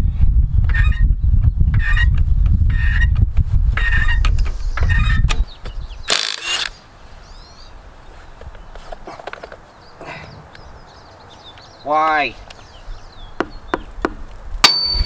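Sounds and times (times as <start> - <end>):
wind buffeting microphone: 0.0 - 9.1, 9.8 - 15.0.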